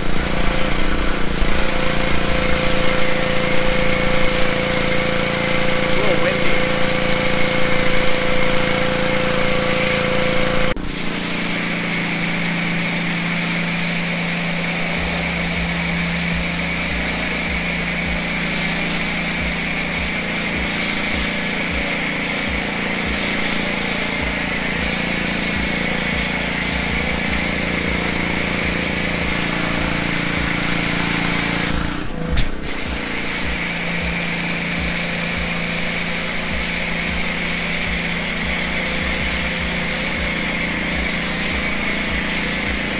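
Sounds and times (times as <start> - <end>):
hiss of spray: 0.0 - 42.9
pressure washer pump drone: 0.0 - 42.9.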